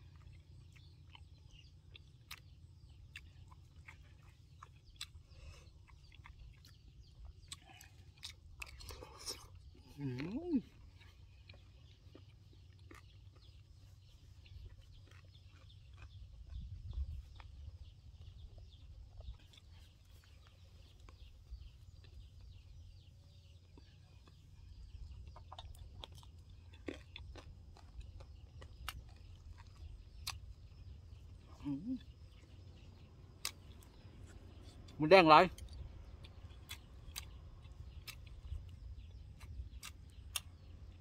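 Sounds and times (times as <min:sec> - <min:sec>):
low steady rumble: 0:00.0 - 0:41.0
man chewing food: 0:00.0 - 0:41.0.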